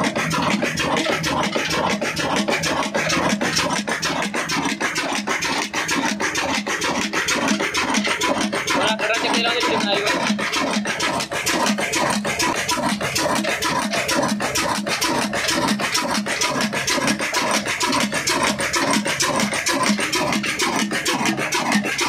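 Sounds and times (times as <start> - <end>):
diesel engine clattering: 0.0 - 22.0.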